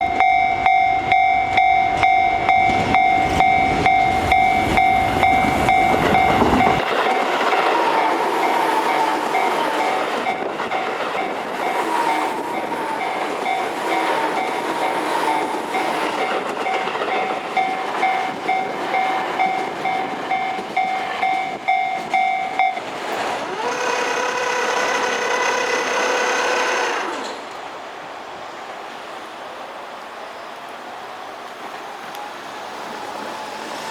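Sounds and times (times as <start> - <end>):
wheels clacking over rail joints: 0.0 - 27.7
electric trains running past: 0.0 - 33.9.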